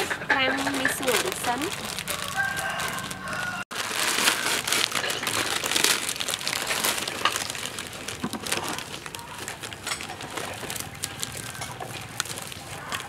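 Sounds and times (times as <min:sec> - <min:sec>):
dry noodles crackling: 0:00.0 - 0:13.0
plastic bag crinkling: 0:00.0 - 0:13.0.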